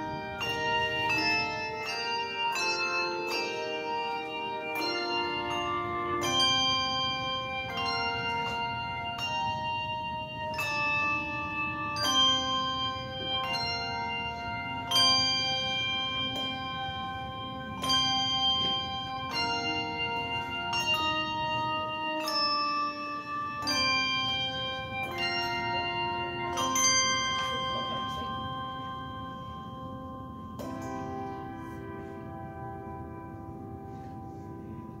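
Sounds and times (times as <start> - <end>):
handbell choir ringing chords: 0.0 - 35.0.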